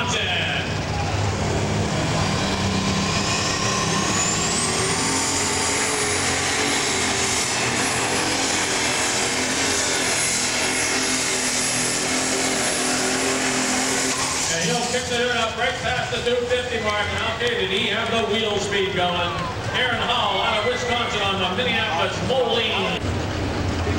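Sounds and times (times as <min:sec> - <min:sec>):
diesel engine running under load: 0:00.0 - 0:23.9
high turbo whine: 0:00.0 - 0:23.9.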